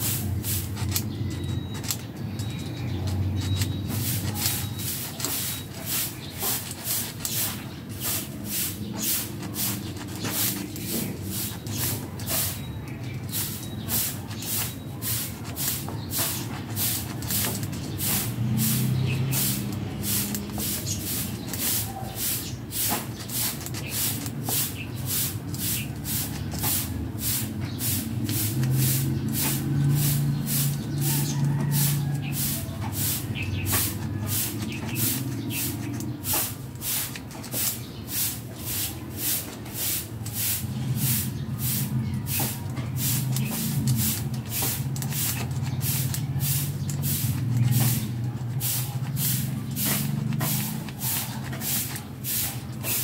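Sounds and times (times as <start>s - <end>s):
rhythmic hissing strokes: 0.0s - 2.1s, 2.9s - 53.0s.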